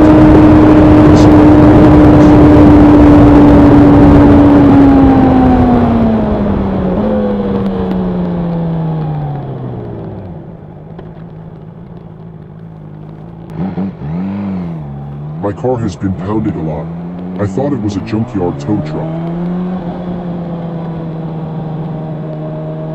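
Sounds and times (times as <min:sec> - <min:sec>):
motorcycle engine decelerating: 0:00.0 - 0:22.9.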